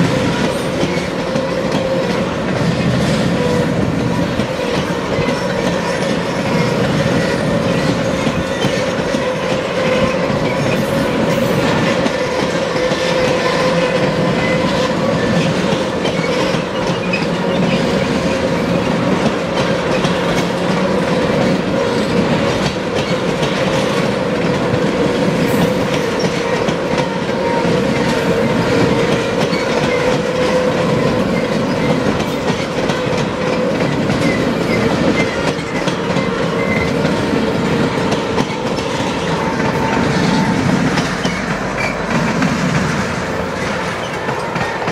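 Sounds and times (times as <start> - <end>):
freight train rolling past: 0.0 - 44.9
wheels clicking over rail joints: 0.0 - 44.9.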